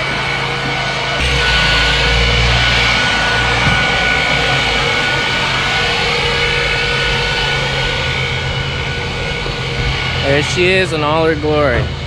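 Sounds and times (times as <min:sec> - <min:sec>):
leaf blower whining: 0:00.0 - 0:11.9.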